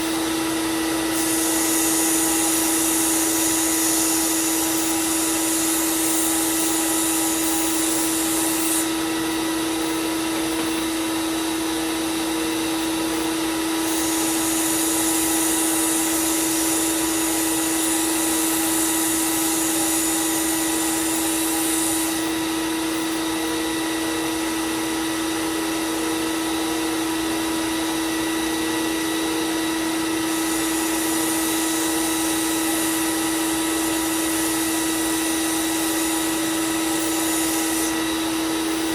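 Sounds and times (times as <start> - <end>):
belt sander motor whine: 0.0 - 38.9.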